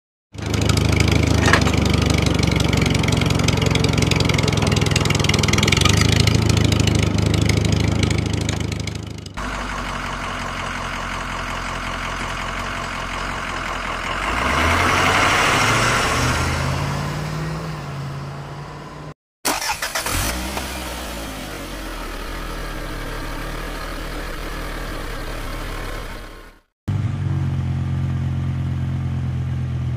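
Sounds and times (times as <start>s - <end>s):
tractor engine running: 0.3s - 29.9s.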